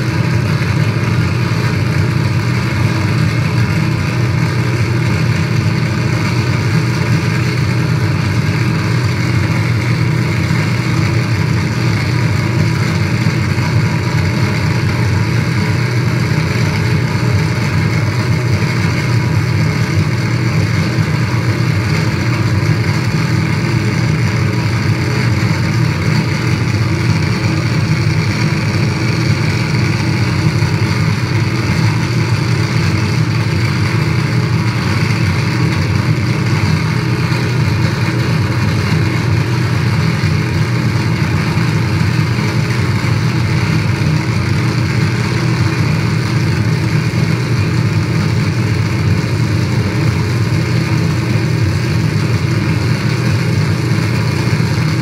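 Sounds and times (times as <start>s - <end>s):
distorted static noise: 0.0s - 55.0s.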